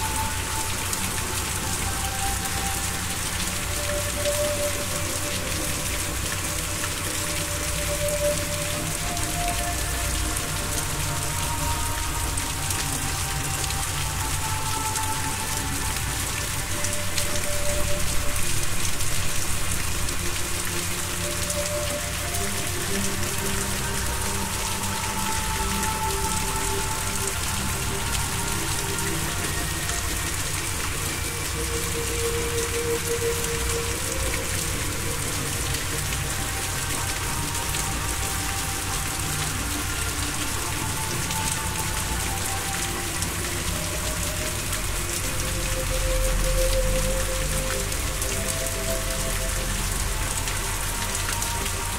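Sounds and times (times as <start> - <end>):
soft ambient music: 0.0 - 51.9
steady rain falling: 0.0 - 51.9.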